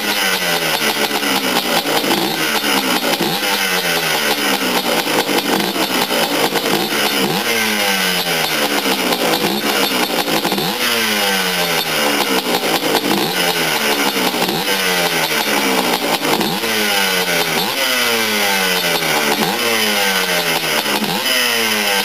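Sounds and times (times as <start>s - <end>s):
two-stroke engine revving: 0.0s - 22.0s.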